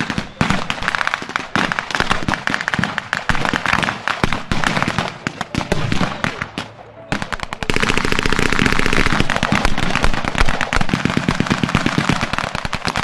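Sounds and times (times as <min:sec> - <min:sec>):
machine guns firing rapid bursts: 0:00.0 - 0:13.0.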